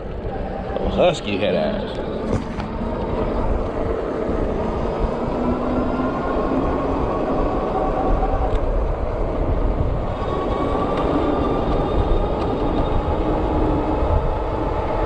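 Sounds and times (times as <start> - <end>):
road rumble: 0.0 - 15.0
wind buffeting microphone: 0.0 - 15.0
wind rush: 0.0 - 15.0.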